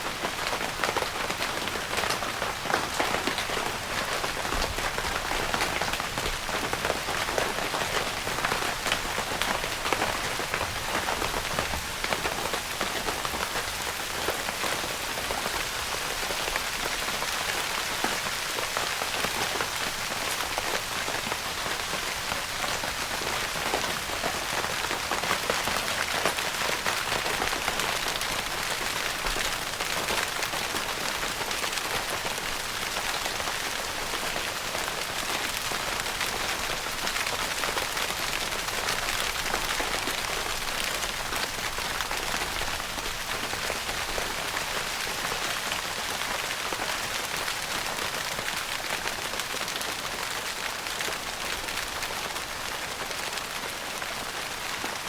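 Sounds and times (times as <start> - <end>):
rain pattering on tent fabric: 0.0 - 55.0.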